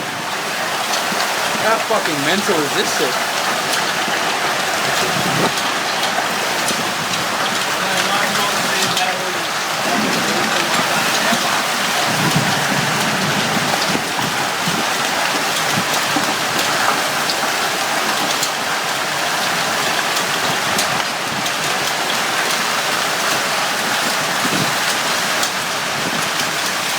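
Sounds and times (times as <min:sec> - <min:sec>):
hail and rain pounding: 0:00.0 - 0:26.9
sharp cracks of hailstones: 0:00.1 - 0:26.9.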